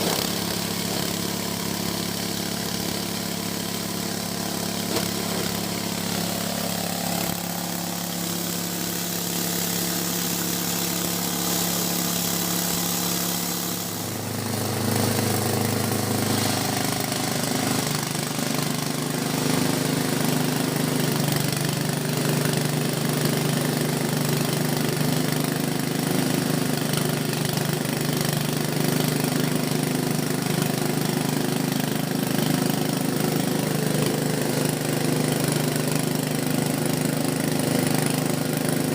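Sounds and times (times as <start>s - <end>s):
chopper-grinder engine running: 0.0s - 38.9s.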